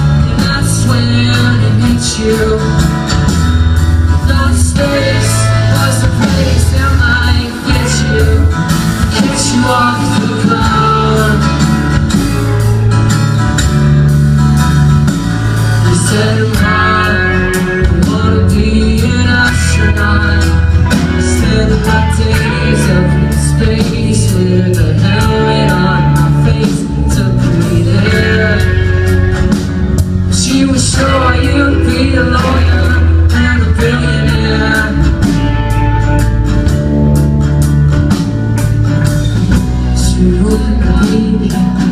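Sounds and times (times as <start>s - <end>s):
bass line: 0.0s - 41.9s
electric guitar lines: 0.0s - 41.9s
steady drum beat: 0.0s - 41.9s.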